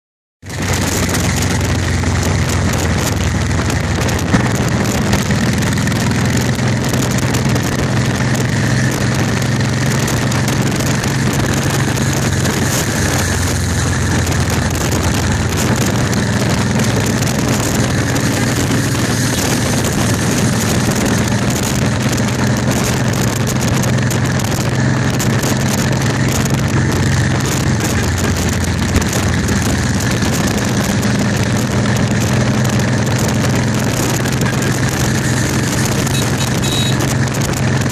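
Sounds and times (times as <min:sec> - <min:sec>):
motorcycle engine humming: 0:00.4 - 0:37.9
wind buffeting microphone: 0:00.5 - 0:37.9.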